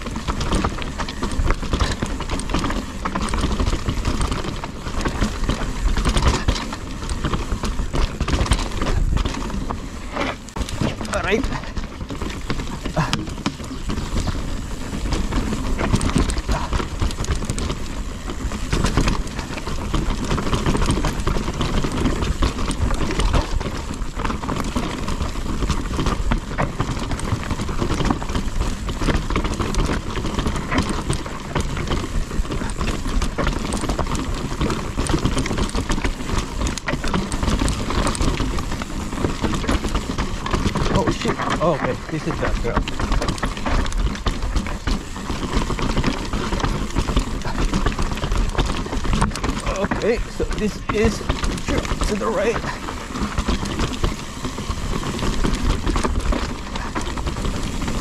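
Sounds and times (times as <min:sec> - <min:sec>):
bike rattling and clattering: 0:00.0 - 0:58.0
bike tyres rolling over dirt: 0:00.0 - 0:58.0
steady rushing noise: 0:00.0 - 0:58.0.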